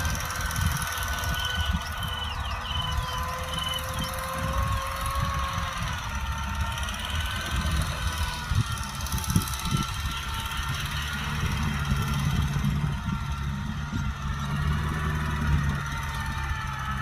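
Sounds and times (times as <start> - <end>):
thin wavering whine: 0.0 - 17.0
tractor diesel engine running: 0.0 - 17.0.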